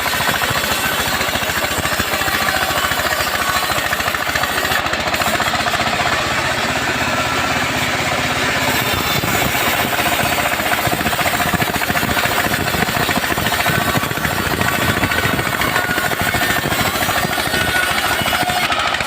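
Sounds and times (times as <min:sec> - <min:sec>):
chainsaw cutting through log: 0:00.0 - 0:19.0.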